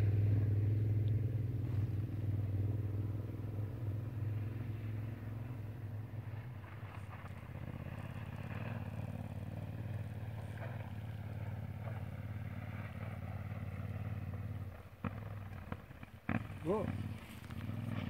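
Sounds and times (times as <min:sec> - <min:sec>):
distant motorcycle engine drone: 0:00.0 - 0:18.0.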